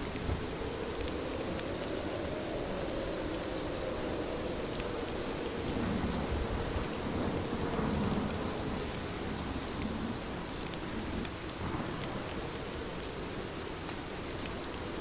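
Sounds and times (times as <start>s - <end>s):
heavy rain: 0.0s - 15.0s
low rumble of thunder: 0.0s - 15.0s.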